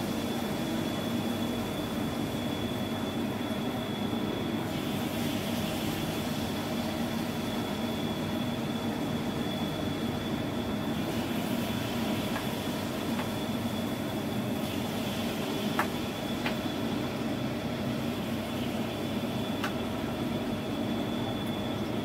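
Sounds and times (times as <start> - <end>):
oil sizzling in a wok: 0.0 - 21.9
extractor fan humming: 0.0 - 22.0.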